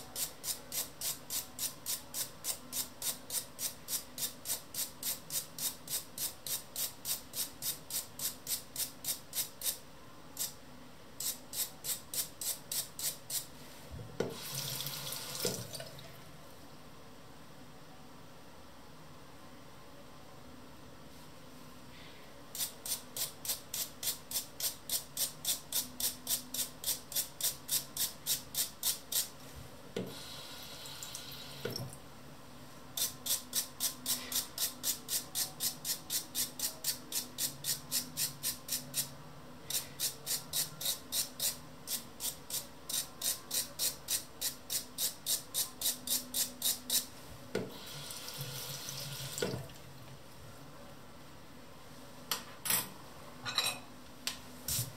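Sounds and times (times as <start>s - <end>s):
soft steady hiss: 0.0s - 54.9s.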